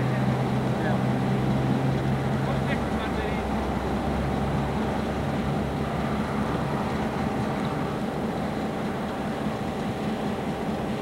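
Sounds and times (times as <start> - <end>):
diesel locomotive engine humming: 0.0 - 11.0.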